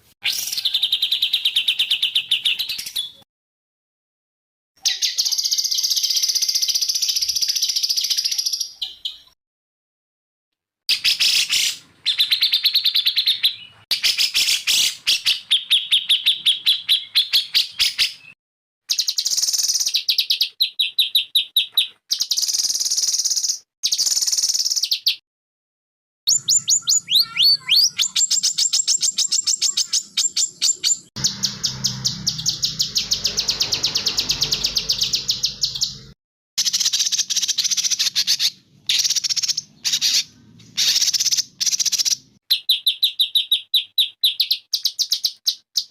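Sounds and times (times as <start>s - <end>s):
songbirds singing: 0.2s - 3.2s, 10.9s - 25.2s, 26.3s - 45.9s.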